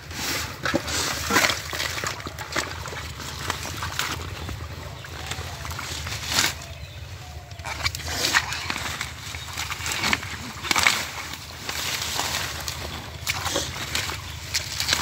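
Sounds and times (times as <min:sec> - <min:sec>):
muddy water sloshing and splashing: 0:00.0 - 0:15.0.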